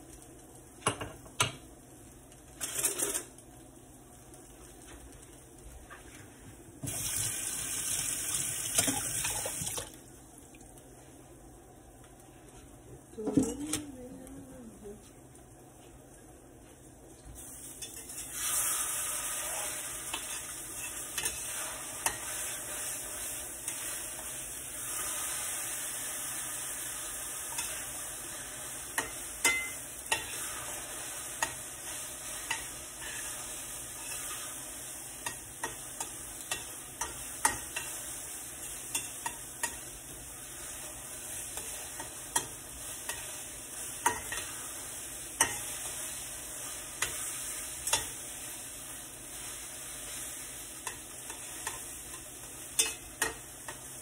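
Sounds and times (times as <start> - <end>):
eggs sizzling in a skillet: 0.0 - 54.0.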